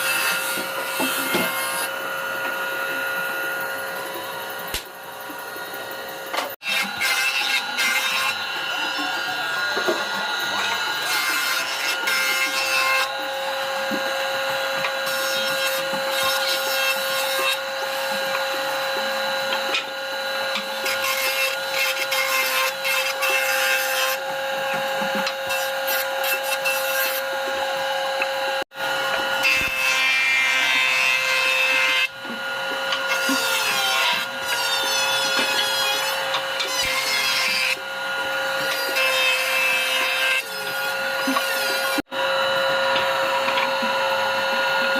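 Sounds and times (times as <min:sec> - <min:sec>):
power saw whining: 0:00.0 - 0:44.9
saw rasping through wood: 0:00.0 - 0:44.9.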